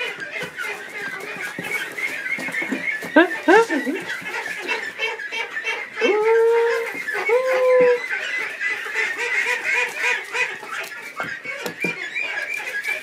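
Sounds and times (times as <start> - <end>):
ducks peeping: 0.0 - 13.0.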